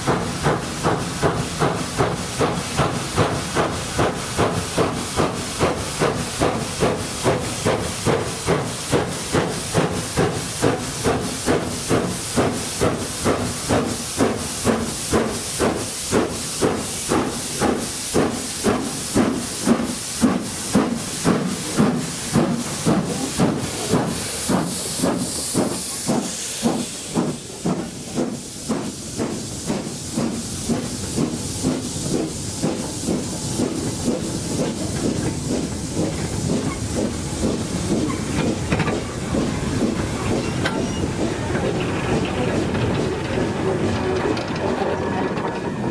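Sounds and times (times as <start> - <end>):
steam hissing: 0.0 - 45.9
steam locomotive chuffing: 0.0 - 45.9.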